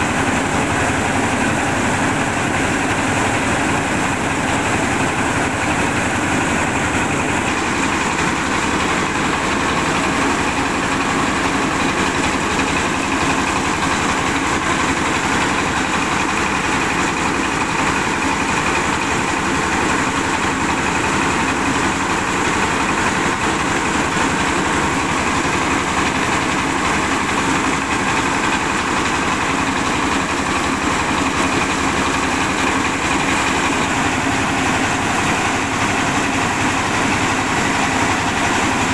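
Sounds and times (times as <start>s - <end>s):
grain streaming through chute: 0.0s - 38.9s
rice mill engine running: 0.0s - 38.9s.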